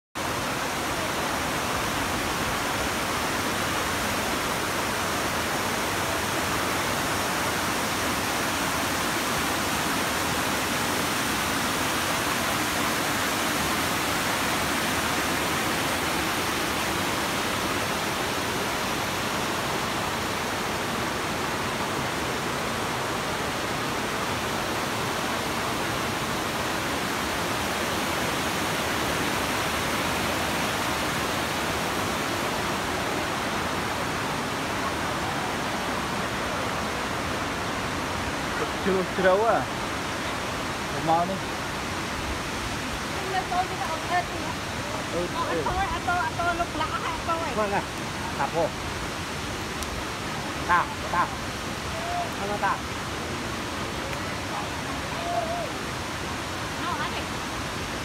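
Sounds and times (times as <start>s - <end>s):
waterfall rushing over rock: 0.1s - 58.0s.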